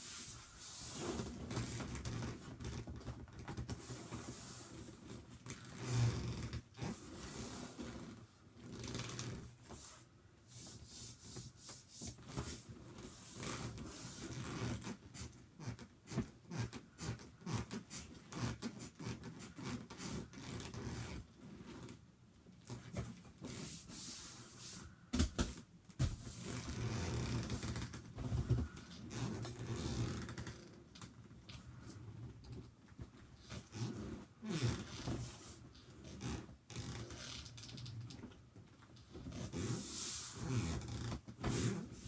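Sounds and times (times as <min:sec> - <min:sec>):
inflatable toy rubbing and creaking: 0:00.0 - 0:22.0, 0:26.0 - 0:30.8, 0:33.0 - 0:37.8, 0:39.0 - 0:42.0.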